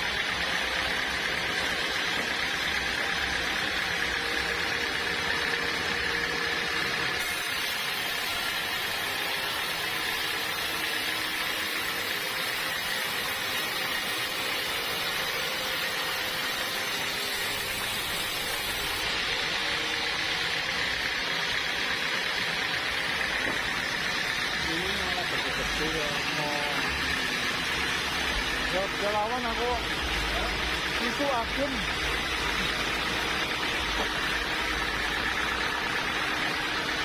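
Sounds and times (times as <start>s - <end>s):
sawmill machinery whining: 0.0s - 37.0s.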